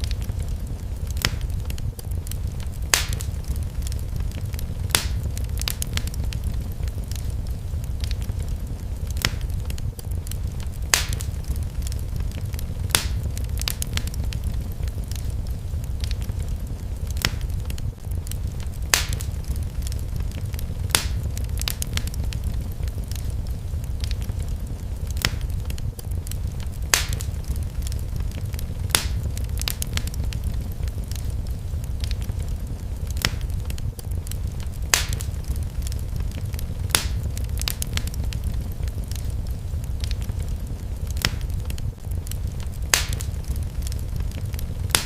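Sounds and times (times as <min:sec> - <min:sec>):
fire crackling: 0:00.0 - 0:45.0
sharp fire pops: 0:00.0 - 0:45.0.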